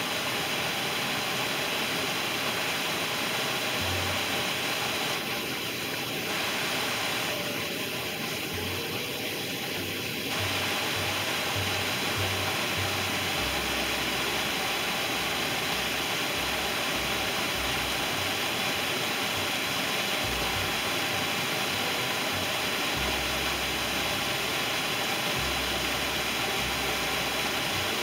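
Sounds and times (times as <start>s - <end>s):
waterfall rushing and splashing: 0.0s - 28.0s.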